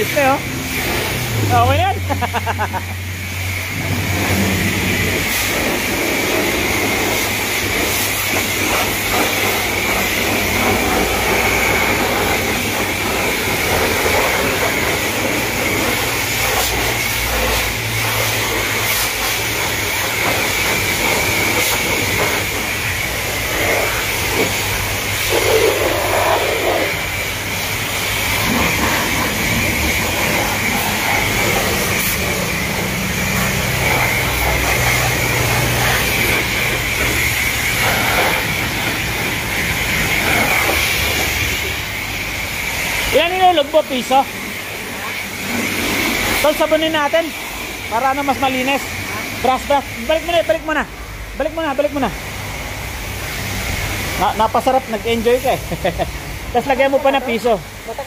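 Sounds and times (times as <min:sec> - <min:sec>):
pressure washer spray hissing: 0:00.0 - 0:58.0.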